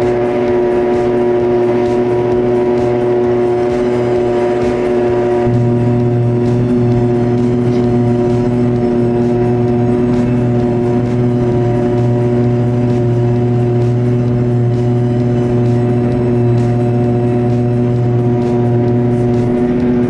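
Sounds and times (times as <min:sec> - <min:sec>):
harvester droning hum: 0:00.0 - 0:20.0.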